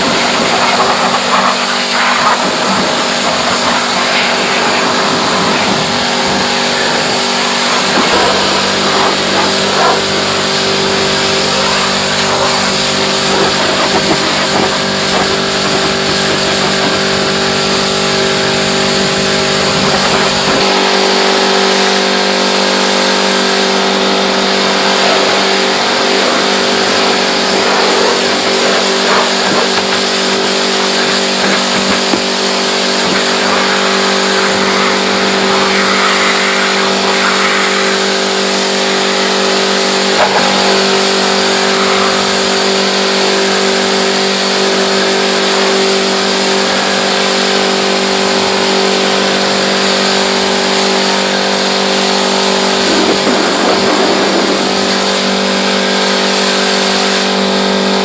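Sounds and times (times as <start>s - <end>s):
water spray hissing: 0.0s - 57.3s
pressure washer motor hum: 0.0s - 58.0s.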